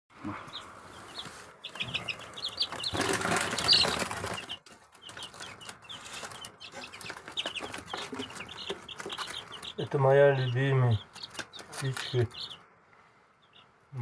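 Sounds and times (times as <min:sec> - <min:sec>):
chicks peeping: 0:00.2 - 0:12.7, 0:13.4 - 0:13.8
rustle of movement: 0:00.4 - 0:12.6.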